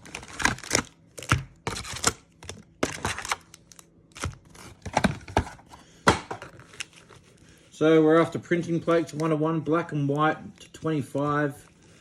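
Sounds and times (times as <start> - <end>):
foil packs crinkling: 0.0 - 5.1, 6.5 - 12.0.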